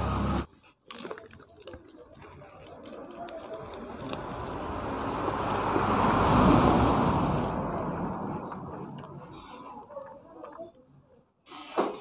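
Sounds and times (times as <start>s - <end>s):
wet chewing: 0.3s - 10.8s.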